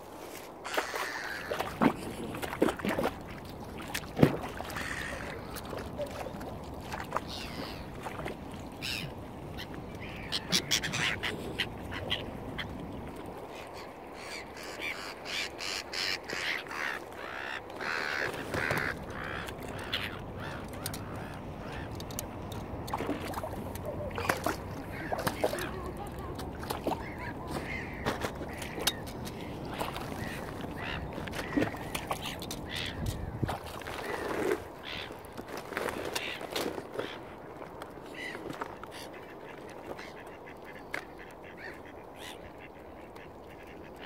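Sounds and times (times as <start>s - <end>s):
waterfowl calling: 0.6s - 3.1s, 3.8s - 37.3s, 38.0s - 44.0s.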